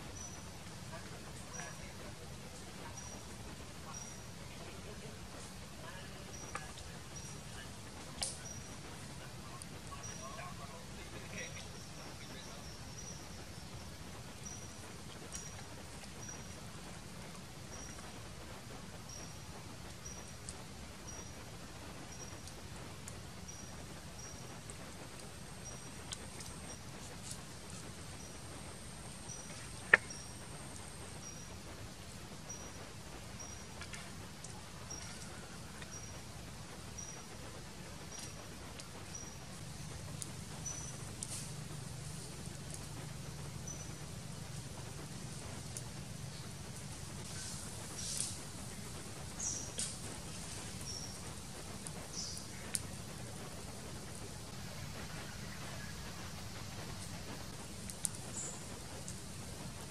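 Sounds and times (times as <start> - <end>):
embers popping and crackling: 0.0 - 59.9
low background noise: 0.0 - 59.9
meat sizzling over charcoal: 0.0 - 59.9
soft steady background: 0.0 - 59.9.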